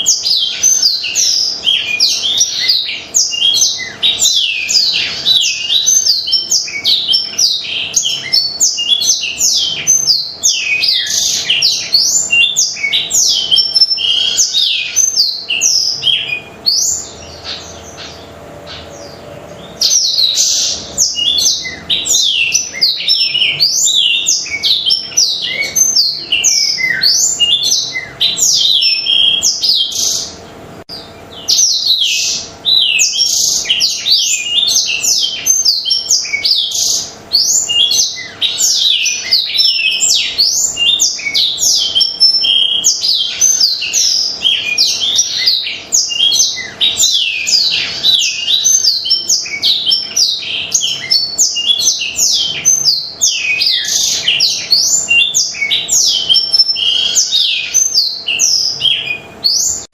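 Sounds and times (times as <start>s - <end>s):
bird twittering song: 0.0s - 59.9s.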